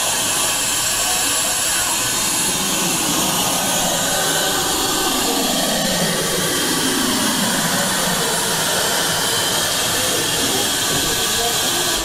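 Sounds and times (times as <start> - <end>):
faint motor whine: 0.0 - 12.0
vacuum suction rushing hiss: 0.0 - 12.0.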